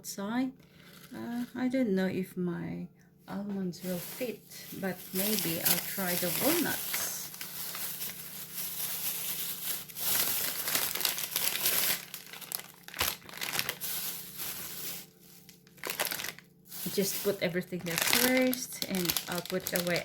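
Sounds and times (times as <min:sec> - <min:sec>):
packet crinkling and rustling: 0:00.8 - 0:01.6, 0:03.7 - 0:20.0.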